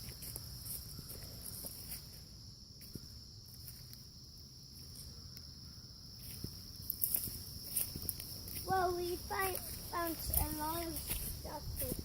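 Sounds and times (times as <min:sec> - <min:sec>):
crickets trilling: 0:00.0 - 0:12.0
high pulsing insect song: 0:00.0 - 0:12.0.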